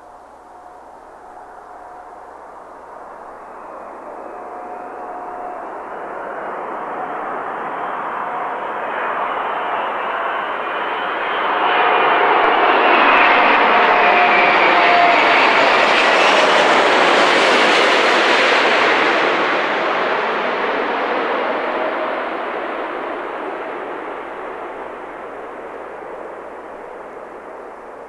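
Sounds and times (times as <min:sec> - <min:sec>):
faint jet engine whine: 0:00.0 - 0:28.0
jet airliner rushing overhead: 0:00.0 - 0:28.0.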